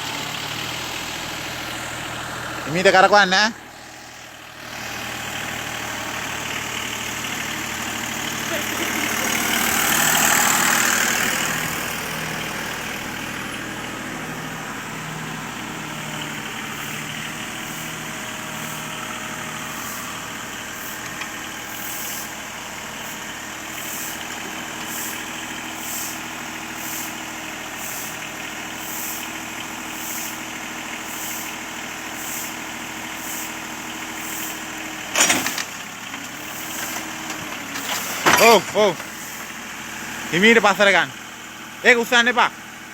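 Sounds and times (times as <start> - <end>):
backhoe loader engine running: 0.0 - 42.9.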